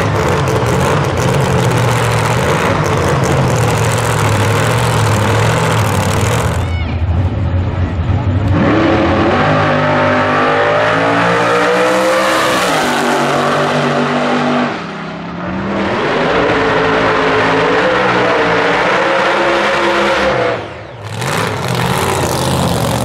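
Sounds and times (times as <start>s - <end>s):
racing car engine at high revs: 0.0s - 6.6s, 8.4s - 23.0s.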